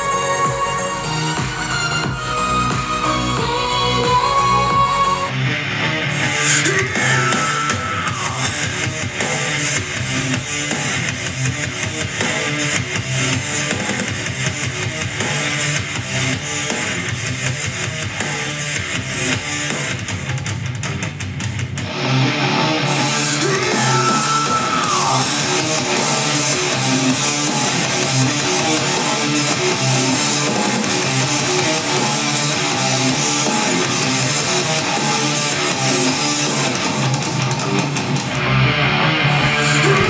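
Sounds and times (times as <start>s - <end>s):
rock music through speaker: 0.0s - 40.0s.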